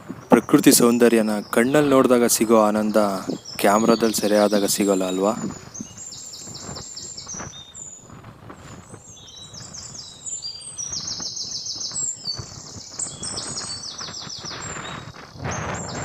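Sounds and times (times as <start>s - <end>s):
birds chirping: 0.0s - 16.0s
steady background hiss: 0.0s - 16.0s.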